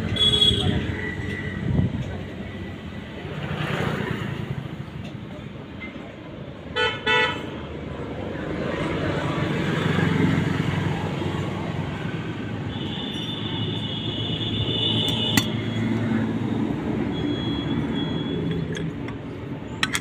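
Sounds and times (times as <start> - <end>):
road traffic rumbling: 0.0 - 20.0.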